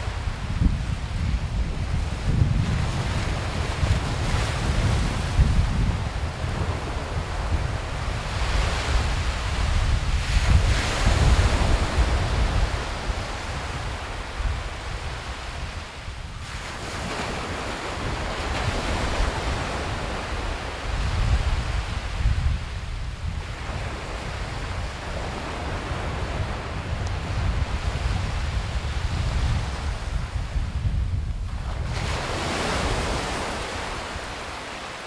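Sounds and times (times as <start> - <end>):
surf washing on beach: 0.0 - 35.0
wind buffeting microphone: 0.0 - 35.0.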